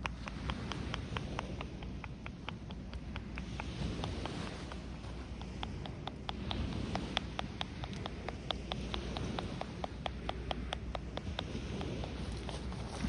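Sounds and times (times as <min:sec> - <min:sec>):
hands tapping in massage: 0:00.0 - 0:13.0
surf rumbling: 0:00.0 - 0:13.0.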